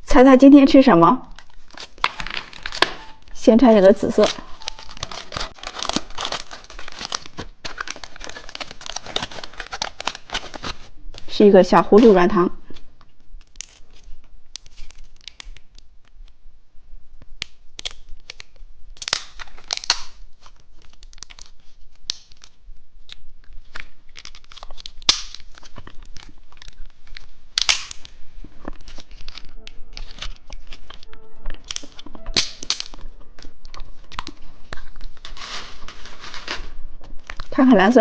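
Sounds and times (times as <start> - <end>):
plastic candy wrapper crinkling: 0.8 - 16.3, 17.4 - 38.0.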